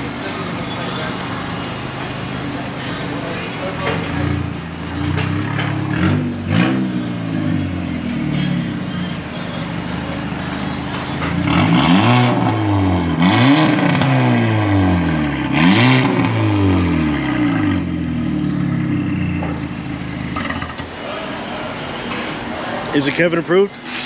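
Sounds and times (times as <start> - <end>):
car engine revving: 0.0 - 22.0
car engine idling: 0.0 - 23.9.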